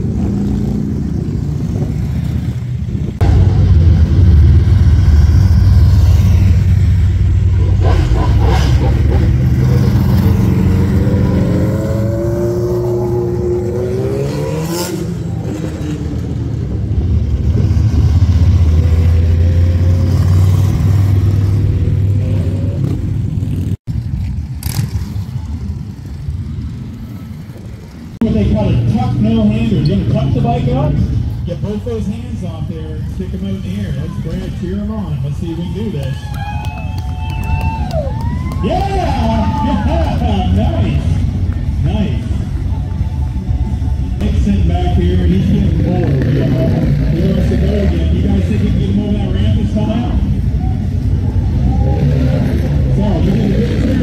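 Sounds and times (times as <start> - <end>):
motorcycle engine revving: 0.0 - 35.5, 40.2 - 54.0
motorcycle engines passing: 0.0 - 54.0.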